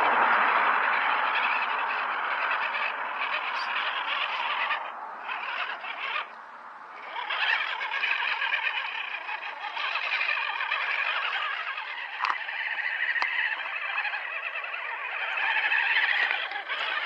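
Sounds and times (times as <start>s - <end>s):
rc car motor and gears whirring: 0.0s - 17.0s.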